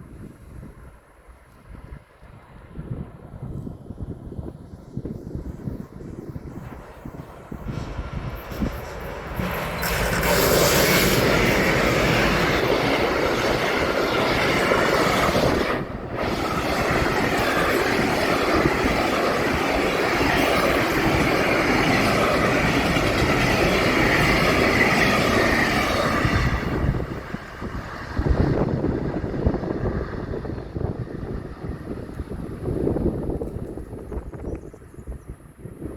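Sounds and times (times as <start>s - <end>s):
train passing at speed: 0.0s - 35.9s
wind noise: 0.0s - 35.9s.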